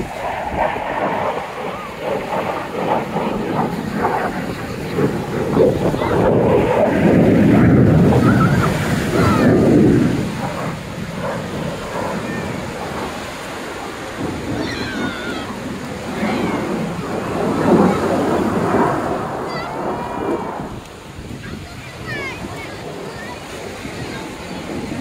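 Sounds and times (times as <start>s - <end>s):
surf breaking on a beach: 0.0s - 25.0s
wind buffeting microphone: 0.0s - 25.0s.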